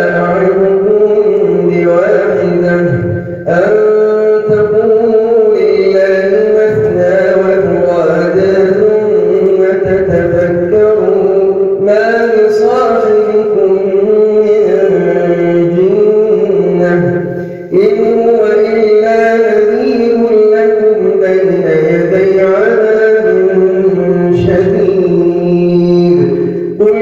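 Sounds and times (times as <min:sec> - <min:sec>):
man chanting recitation: 0:00.0 - 0:27.0.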